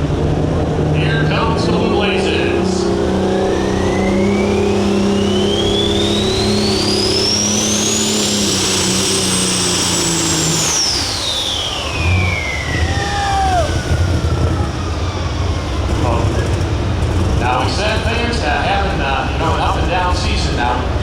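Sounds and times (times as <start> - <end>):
tractor engine at full throttle: 0.0 - 21.0
turbocharger whine: 0.0 - 21.0.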